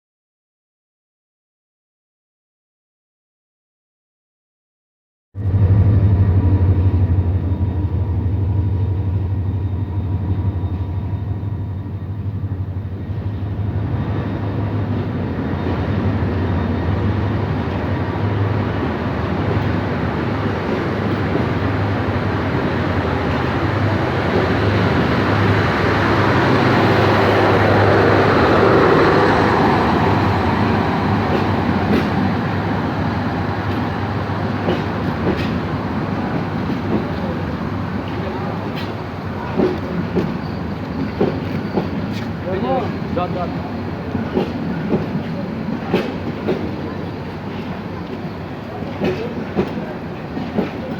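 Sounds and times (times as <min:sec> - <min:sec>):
diesel locomotive engine drone: 0:05.4 - 0:50.9
train coaches rumbling past: 0:05.4 - 0:50.9.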